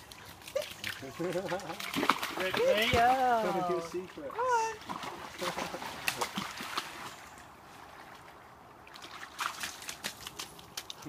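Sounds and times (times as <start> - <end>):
dogs splashing in water: 0.0 - 7.4, 8.9 - 11.0
river trickling: 0.0 - 11.0.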